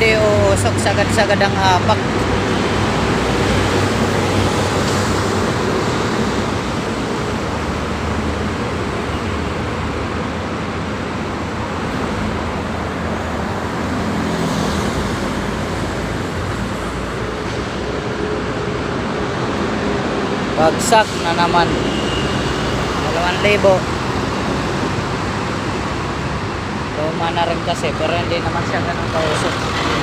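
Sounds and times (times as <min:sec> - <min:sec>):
road noise rushing: 0:00.0 - 0:30.0
vehicle engines humming: 0:00.0 - 0:30.0.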